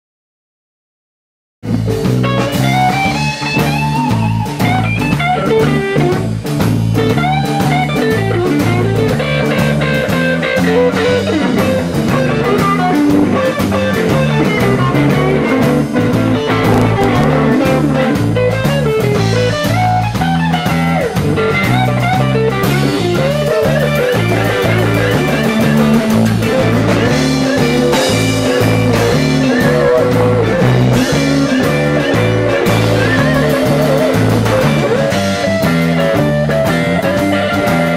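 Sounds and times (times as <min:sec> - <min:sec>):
drum kit: 0:01.6 - 0:37.9
electric guitars playing blues: 0:01.6 - 0:37.9.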